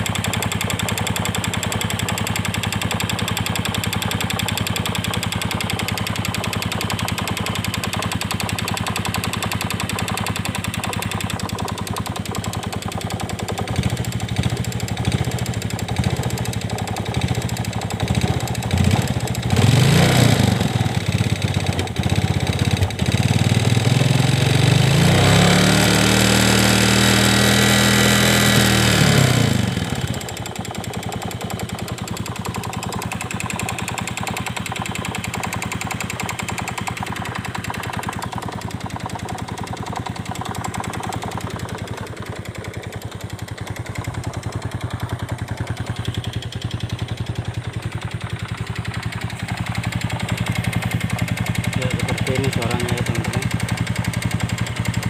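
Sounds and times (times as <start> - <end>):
engine ticking rattle: 0.0 - 55.0
motorcycle engine revving and idling: 0.0 - 55.0.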